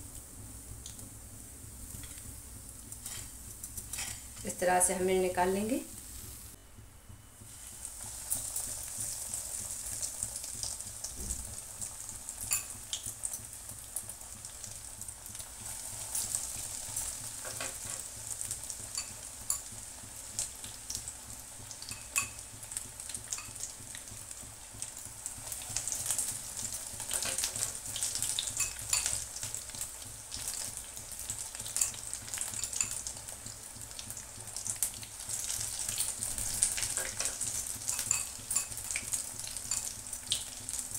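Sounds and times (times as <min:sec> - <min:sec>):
food deep-frying in hot oil: 0:00.0 - 0:06.6, 0:07.4 - 0:40.9.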